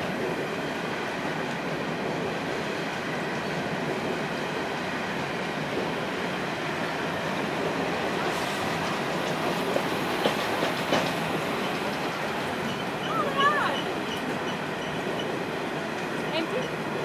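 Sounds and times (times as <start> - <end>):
train wagons rolling on rails: 0.0 - 17.0.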